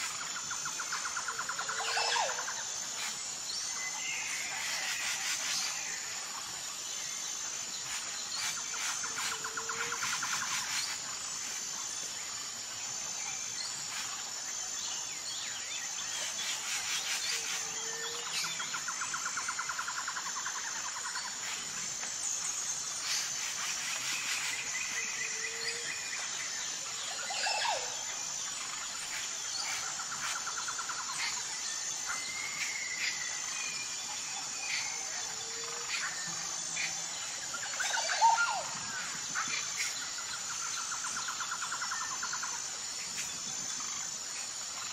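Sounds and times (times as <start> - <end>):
insect chirring: 0.0 - 44.9.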